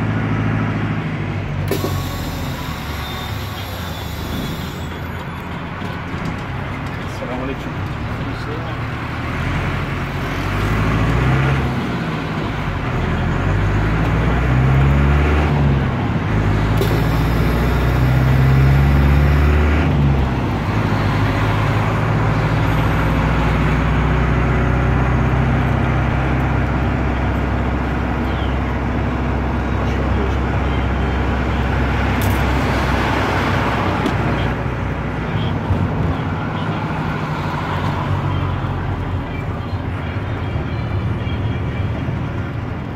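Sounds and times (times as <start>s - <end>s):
diesel engine pulling through gears: 0.0s - 42.9s.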